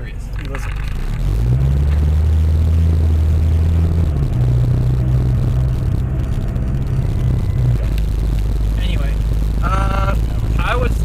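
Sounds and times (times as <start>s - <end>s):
car cabin humming while driving: 0.0s - 11.0s.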